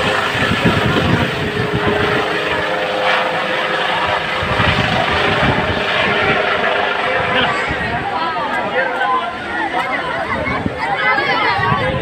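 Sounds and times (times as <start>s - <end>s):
helicopter running: 0.0s - 12.0s.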